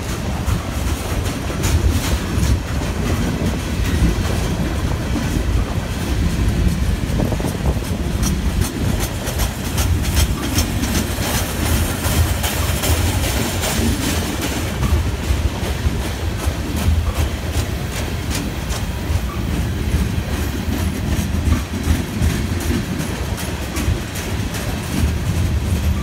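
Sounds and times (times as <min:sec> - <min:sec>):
freight train cars rolling past: 0:00.0 - 0:26.0
wheels clacking over rail joints: 0:00.0 - 0:26.0.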